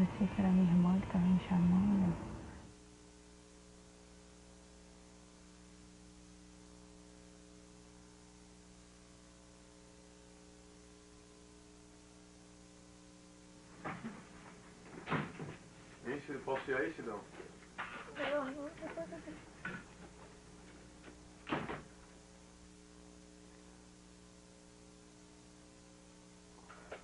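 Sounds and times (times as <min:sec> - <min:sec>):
faint mains hum: 0:00.0 - 0:27.0.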